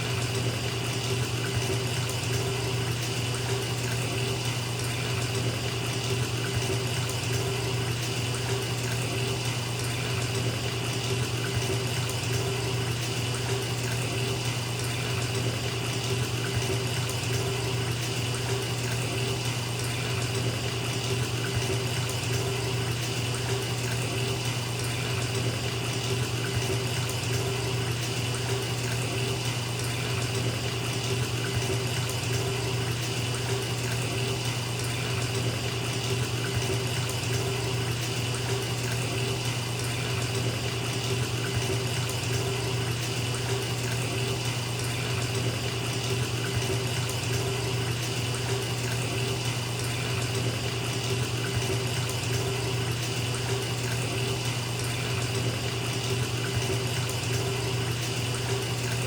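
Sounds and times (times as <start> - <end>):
water pouring into bathtub: 0.0 - 59.0.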